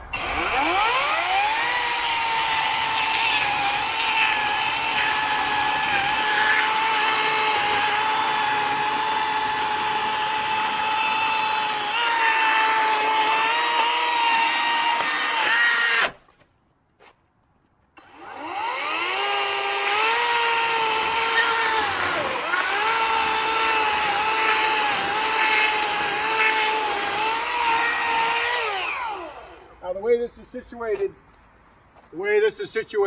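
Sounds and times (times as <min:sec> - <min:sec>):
electric chainsaw cutting a log: 0:00.0 - 0:16.2, 0:18.0 - 0:29.8.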